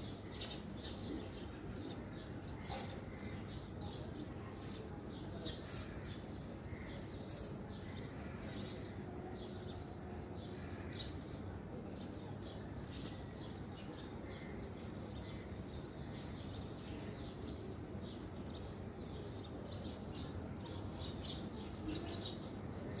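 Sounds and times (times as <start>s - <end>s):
low background noise: 0.0s - 23.0s.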